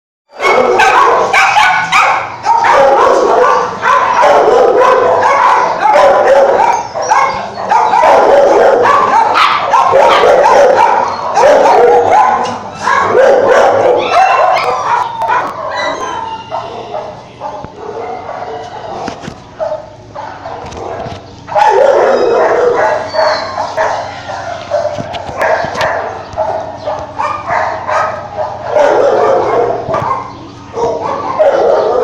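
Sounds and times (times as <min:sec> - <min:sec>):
many dogs barking and yelping: 0:00.4 - 0:32.0.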